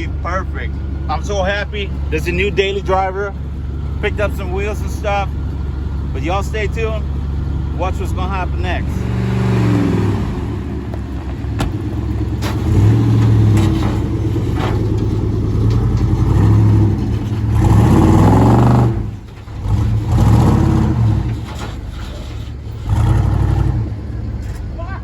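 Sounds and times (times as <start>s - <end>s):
pickup engine revving: 0.0s - 25.0s.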